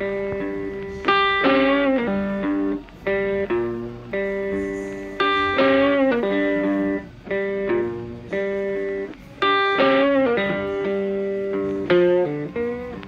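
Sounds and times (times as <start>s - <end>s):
guitar playing sustained chords: 0.0s - 13.0s.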